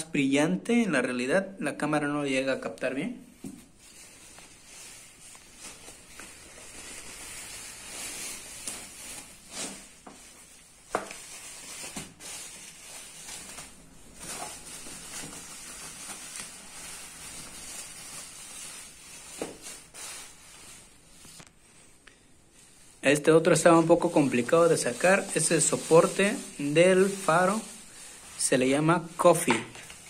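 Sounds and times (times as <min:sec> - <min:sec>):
plastic packaging crinkling: 0:03.6 - 0:21.7, 0:22.7 - 0:30.0.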